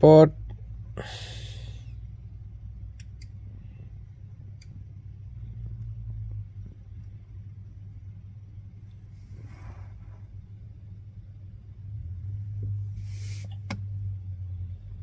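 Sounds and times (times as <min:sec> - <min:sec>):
car cabin hum: 0:02.0 - 0:15.0.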